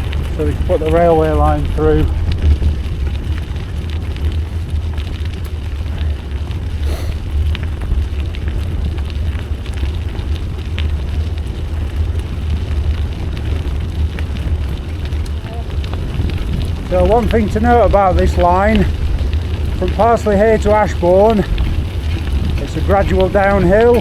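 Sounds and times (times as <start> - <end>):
bike tyres on gravel: 0.0 - 24.0
wind rumbling on microphone: 0.0 - 24.0.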